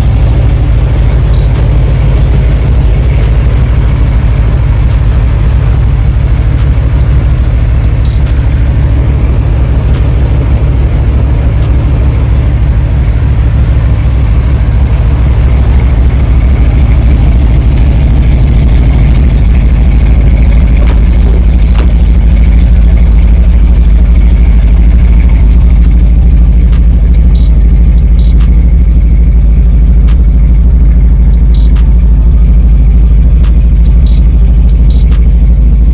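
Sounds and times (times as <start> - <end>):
car engine idling loudly: 0.0 - 35.9.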